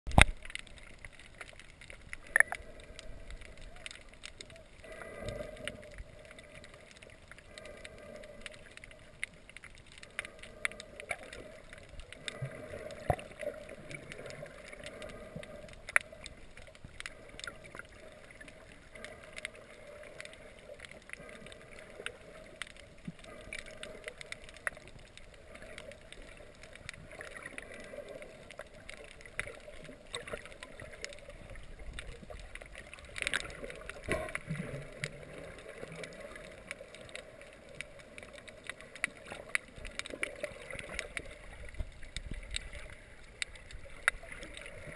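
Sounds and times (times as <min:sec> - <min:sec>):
low underwater hum: 0:00.1 - 0:44.9
sharp clicks and pops: 0:00.1 - 0:44.9.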